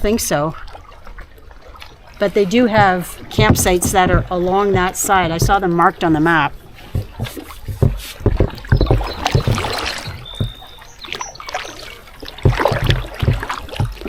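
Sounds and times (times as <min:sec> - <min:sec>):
paddle splashing water: 0:00.0 - 0:14.0
low thumps: 0:02.3 - 0:14.0.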